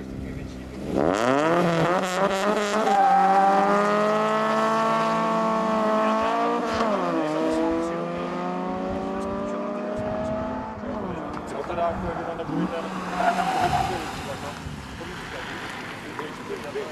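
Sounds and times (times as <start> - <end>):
car engines revving high: 0.0 - 16.9.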